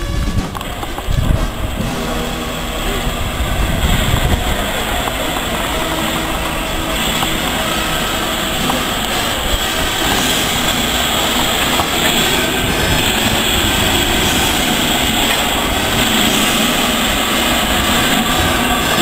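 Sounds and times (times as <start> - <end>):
steam locomotive hissing and rumbling: 0.0 - 19.0.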